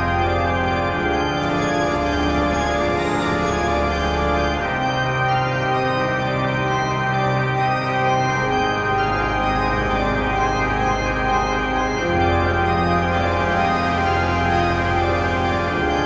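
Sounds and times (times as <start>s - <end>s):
slow organ music: 0.0s - 16.0s.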